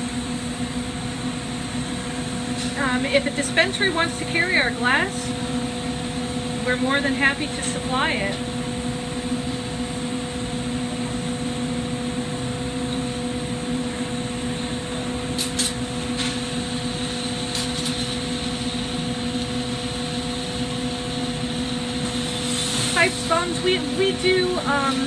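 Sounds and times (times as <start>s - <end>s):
torch flames hissing: 0.0s - 25.0s
ventilation hum: 0.0s - 25.0s.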